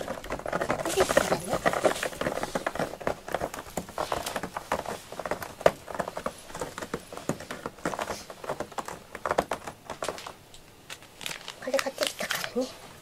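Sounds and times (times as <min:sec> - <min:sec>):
cat scratching in litter: 0:00.0 - 0:12.6.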